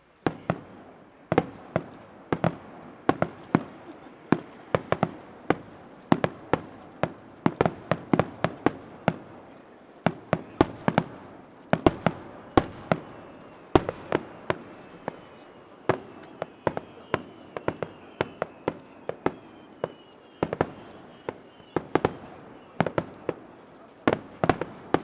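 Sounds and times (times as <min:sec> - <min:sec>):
fireworks bursting: 0:00.0 - 0:25.0.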